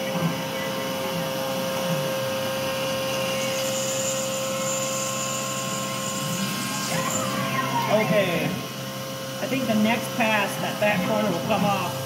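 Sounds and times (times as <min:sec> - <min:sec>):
milling machine cutting whine: 0:00.0 - 0:12.0.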